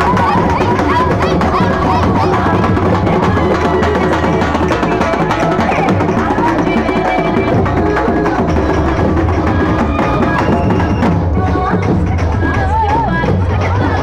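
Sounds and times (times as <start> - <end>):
fast dense drumming: 0.0 - 14.0.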